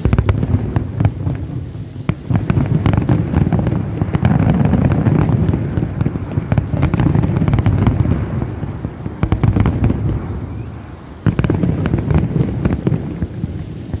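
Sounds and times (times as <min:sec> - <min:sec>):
fireworks bursting with crackle: 0:00.0 - 0:14.0.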